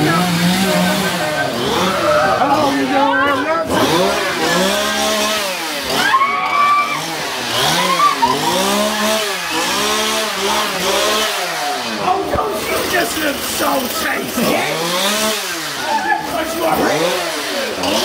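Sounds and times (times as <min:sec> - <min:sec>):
chainsaw engine revving: 0:00.0 - 0:18.0.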